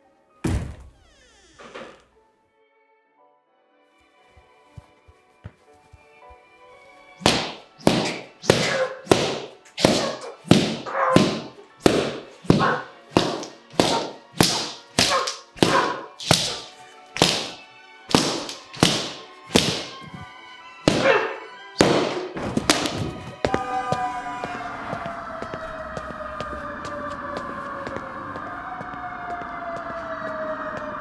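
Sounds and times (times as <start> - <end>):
quiet background music: 0.0 - 31.0.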